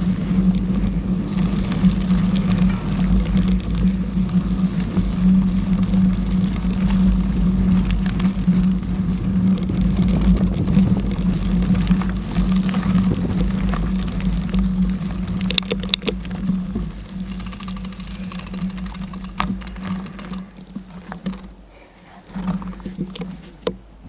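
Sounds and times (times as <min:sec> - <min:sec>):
small rattles and clicks: 0:00.0 - 0:23.9
bike tyres and drivetrain humming: 0:00.0 - 0:24.0.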